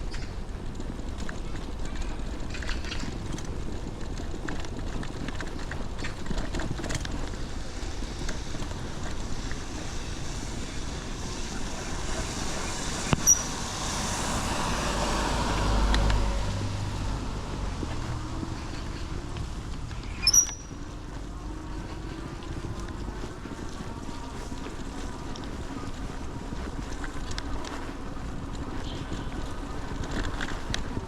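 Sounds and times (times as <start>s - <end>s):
road and wind noise: 0.0s - 31.0s
motor vehicle passing by: 0.1s - 31.0s.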